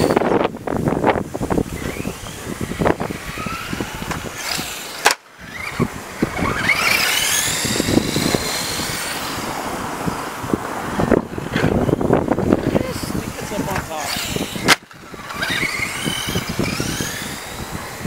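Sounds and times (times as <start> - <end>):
small electric motor whining: 0.0 - 18.0
wind on microphone: 0.0 - 18.0.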